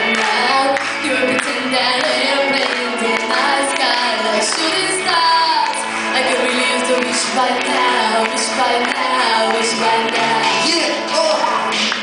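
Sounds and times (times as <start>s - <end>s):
girl singing into microphone: 0.0s - 10.7s
recorded backing track: 0.0s - 12.0s.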